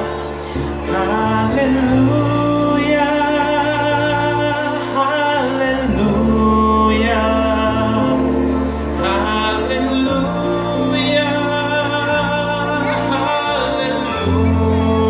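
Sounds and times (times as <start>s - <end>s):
electric bass: 0.0s - 15.0s
man singing into a microphone: 0.0s - 15.0s.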